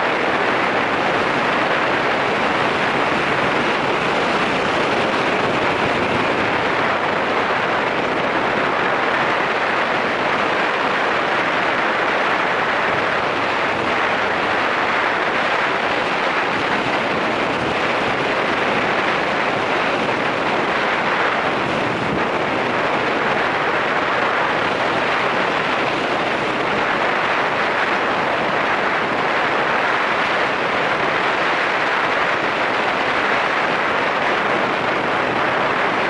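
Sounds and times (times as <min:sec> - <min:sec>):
motorcycle running and road noise: 0:00.0 - 0:36.0
wind rush on microphone: 0:00.0 - 0:36.0.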